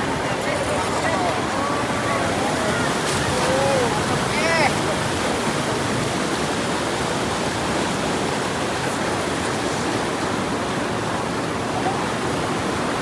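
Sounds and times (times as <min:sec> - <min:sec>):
floodwater rushing through sluice: 0:00.0 - 0:13.0.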